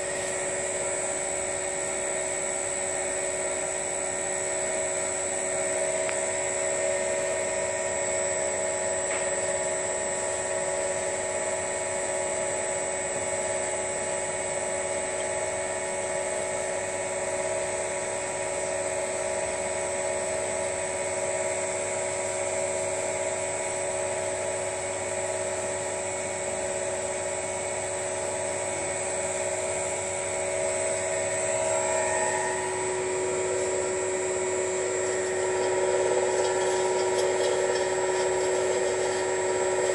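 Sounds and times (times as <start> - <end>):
oil press motor whine: 0.0 - 39.9.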